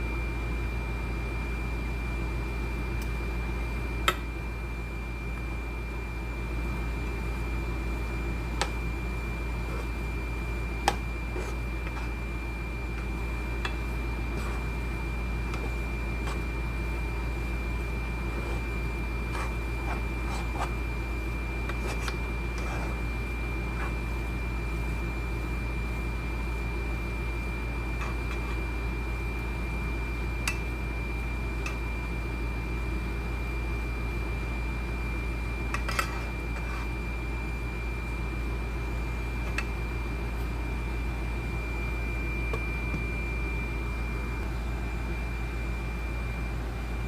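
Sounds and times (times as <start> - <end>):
machine hum with high whine: 0.0 - 47.0.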